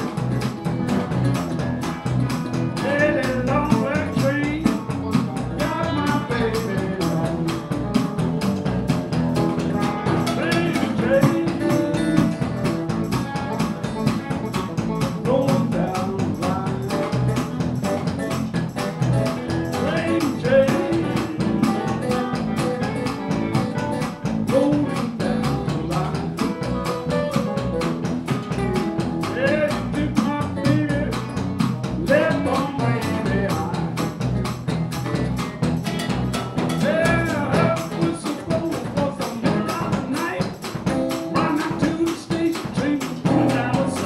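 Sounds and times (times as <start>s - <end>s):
drum kit: 0.0s - 44.0s
electric bass: 0.0s - 44.0s
electric guitar: 0.0s - 44.0s.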